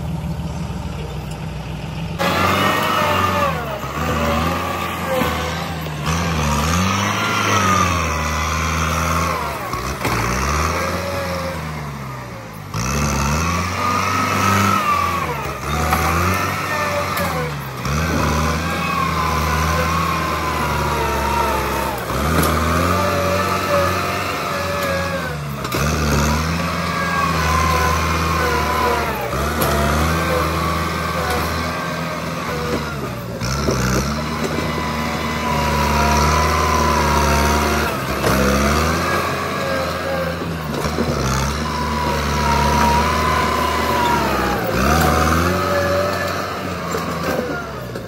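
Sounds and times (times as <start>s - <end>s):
dozer blade pushing soil: 0.0s - 48.0s
tractor diesel engine under load: 0.0s - 48.0s.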